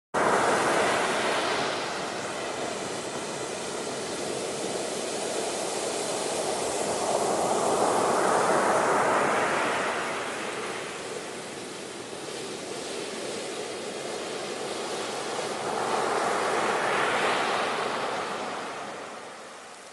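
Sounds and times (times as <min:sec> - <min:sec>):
ocean waves washing in: 0:00.2 - 0:19.9.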